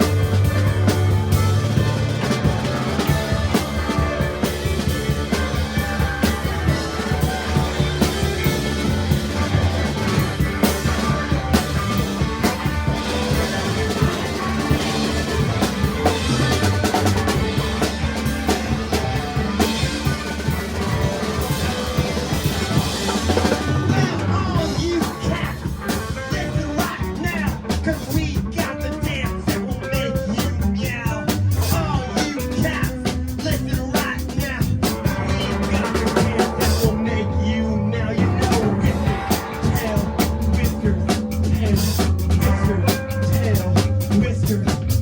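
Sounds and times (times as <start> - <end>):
rock band playing: 0.0 - 45.0.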